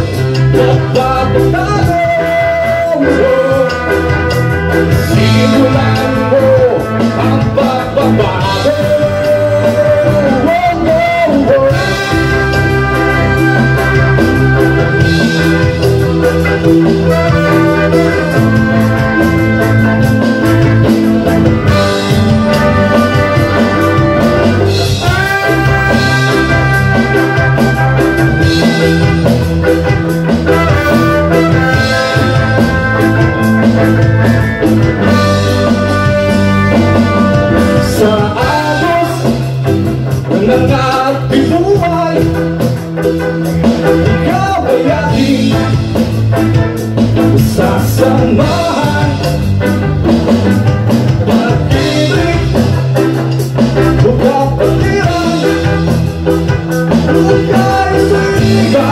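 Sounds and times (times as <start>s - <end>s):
trumpet and trombone: 0.0s - 39.8s, 40.4s - 58.9s
bass: 0.0s - 58.9s
drums: 0.0s - 58.9s
electric guitar: 0.0s - 58.9s.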